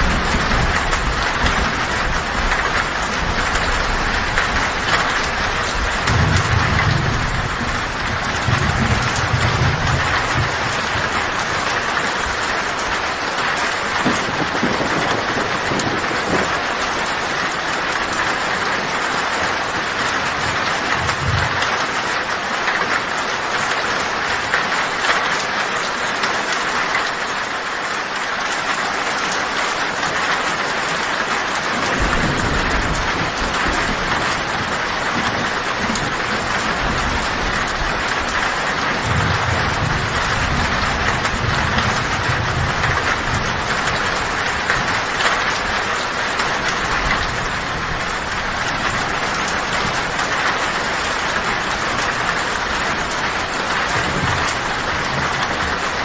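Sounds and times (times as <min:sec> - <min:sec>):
low thunder rumbling: 0:00.0 - 0:22.1, 0:31.5 - 0:56.0
heavy rain on a tin roof: 0:00.0 - 0:56.0.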